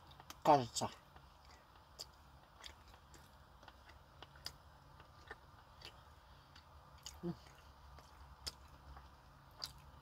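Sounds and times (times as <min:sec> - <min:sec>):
low steady hum: 0:00.0 - 0:10.0
chewing mouth clicks: 0:01.2 - 0:10.0.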